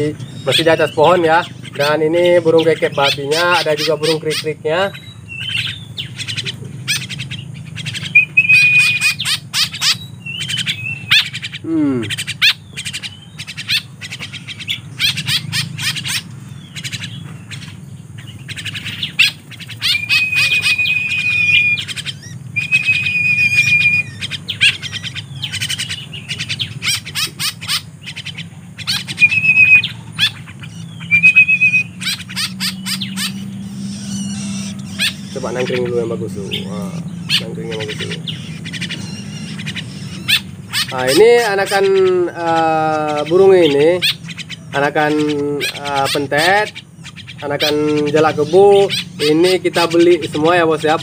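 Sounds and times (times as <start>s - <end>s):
wavering bird trills: 0.0s - 51.0s
young birds chirping: 0.0s - 51.0s.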